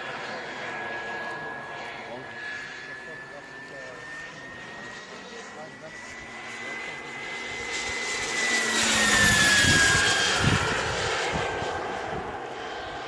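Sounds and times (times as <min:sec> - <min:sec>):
jet turbine engine whining: 0:00.0 - 0:13.0.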